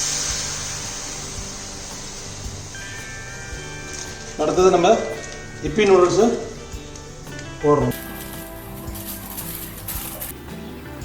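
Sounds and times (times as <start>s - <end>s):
music with soft steady beat: 0.0s - 11.0s
water sizzling in a hot pan: 0.0s - 11.0s.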